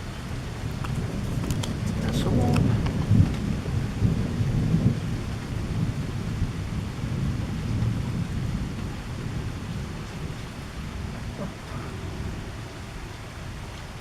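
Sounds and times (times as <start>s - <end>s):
rolling thunder: 0.0s - 14.0s
steady rain: 0.0s - 14.0s.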